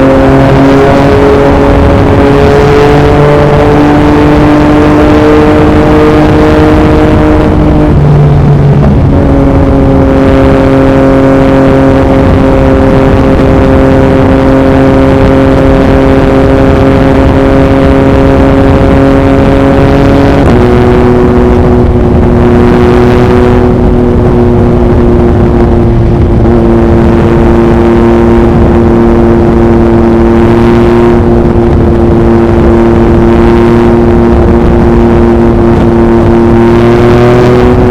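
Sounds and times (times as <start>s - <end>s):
motorcycle engine cruising: 0.0s - 37.9s
wind noise on microphone: 0.0s - 37.9s.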